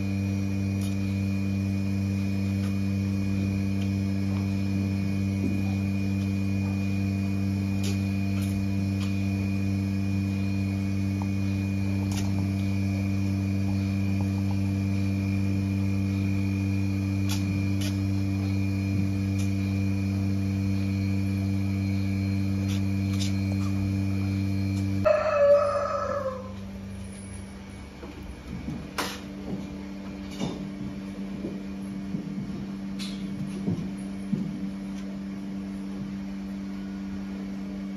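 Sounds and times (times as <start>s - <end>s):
steady machine hum: 0.0s - 37.9s.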